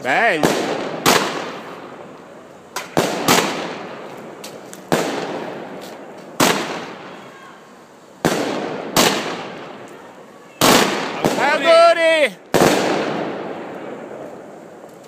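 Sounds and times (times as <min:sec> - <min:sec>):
fireworks bangs with echo: 0:00.0 - 0:07.5, 0:08.2 - 0:09.9, 0:10.5 - 0:14.9.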